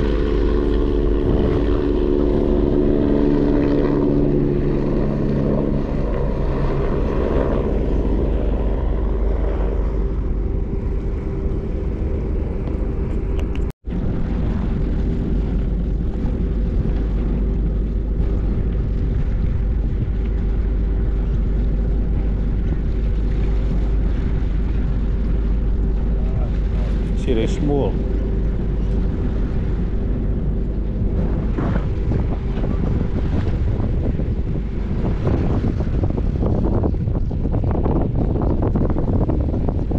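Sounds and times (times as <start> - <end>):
light aircraft engine drone: 0.0 - 39.9
wind buffeting microphone: 0.0 - 39.9.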